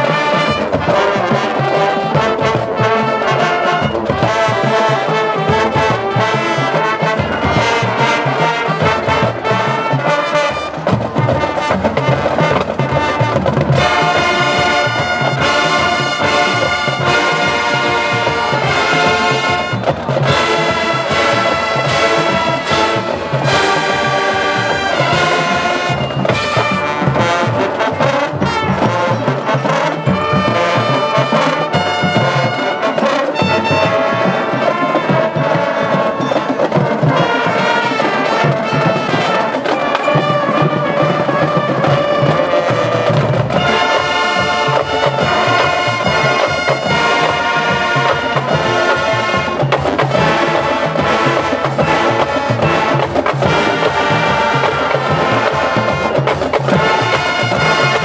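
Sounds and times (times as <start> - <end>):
brass section playing chords: 0.0 - 58.0
marching percussion drums: 0.0 - 58.0.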